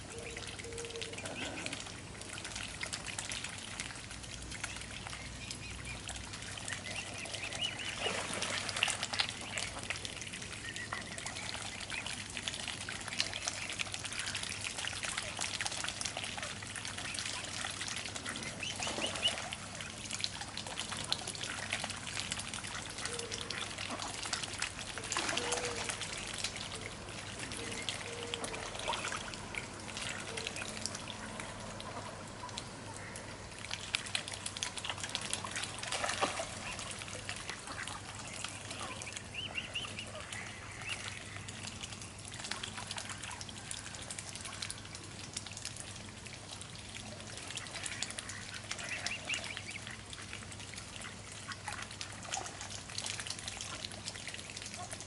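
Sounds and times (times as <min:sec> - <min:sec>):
swan bill splashing water: 0:00.0 - 0:55.0.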